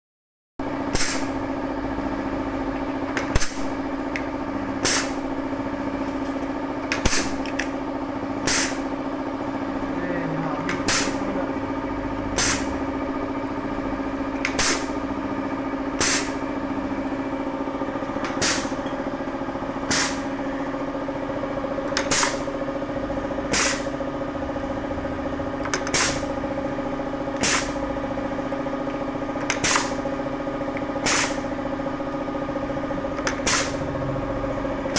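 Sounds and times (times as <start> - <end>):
press machine humming: 0.6 - 34.9.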